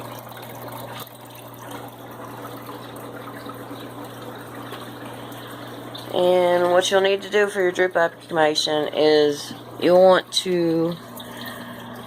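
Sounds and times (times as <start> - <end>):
low steady hum: 0.0 - 12.0
water pouring into a tank: 0.0 - 12.0.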